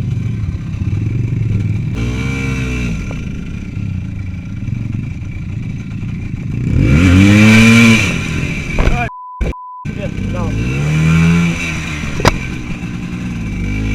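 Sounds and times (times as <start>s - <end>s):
motorcycle engine revving: 0.0s - 9.1s, 9.9s - 13.9s.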